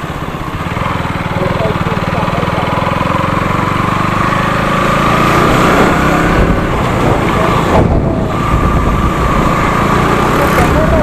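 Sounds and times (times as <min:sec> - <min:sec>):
motorcycle engine running: 0:00.0 - 0:11.0
rushing wind: 0:00.0 - 0:11.0.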